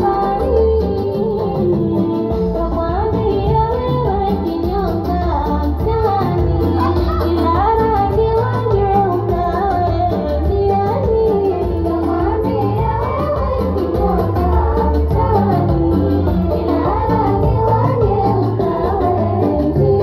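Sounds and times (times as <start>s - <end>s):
instrumental backing music: 0.0s - 20.0s
women singing into microphones: 0.0s - 20.0s.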